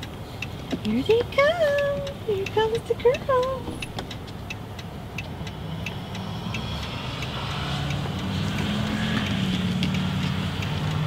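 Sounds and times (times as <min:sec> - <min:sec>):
bus engine approaching: 0:00.0 - 0:11.0.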